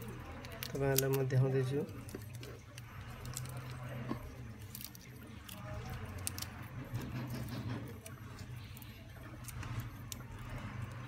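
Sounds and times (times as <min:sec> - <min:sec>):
low steady hum: 0:00.0 - 0:11.0
small parts clicking and rustling: 0:00.0 - 0:11.0.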